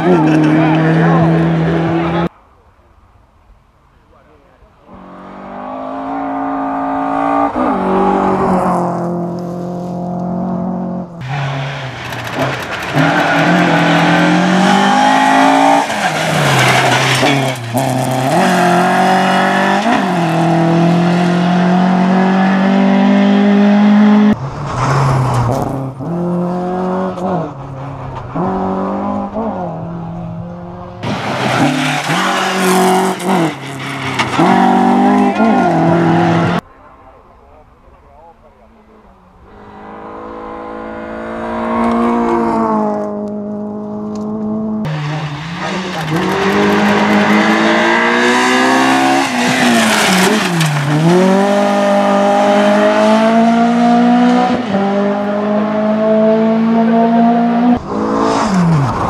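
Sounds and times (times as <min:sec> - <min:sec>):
rally car engines revving: 0:00.0 - 0:02.3, 0:04.8 - 0:36.6, 0:38.6 - 0:59.0.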